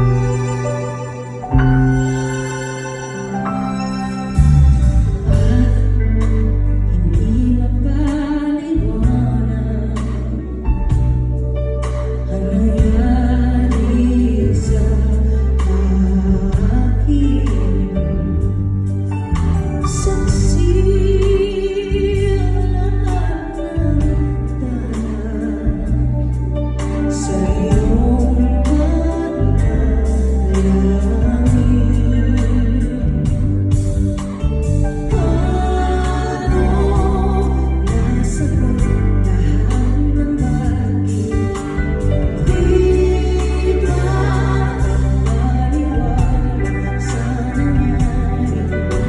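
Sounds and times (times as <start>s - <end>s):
live band with heavy bass: 0.0s - 49.0s
person singing with vibrato: 0.0s - 49.0s.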